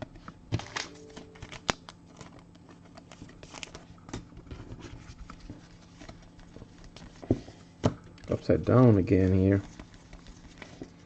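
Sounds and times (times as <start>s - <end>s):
card stock rustling: 0.5s - 7.6s, 8.3s - 11.0s.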